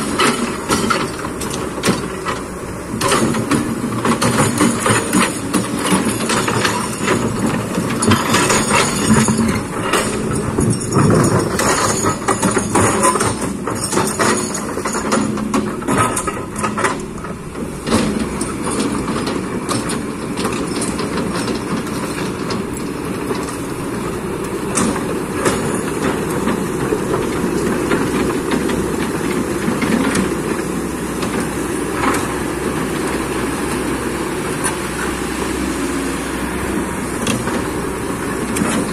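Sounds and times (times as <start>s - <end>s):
sharp knocks and clatter: 0.0s - 33.9s
excavator diesel engine running: 0.0s - 38.9s.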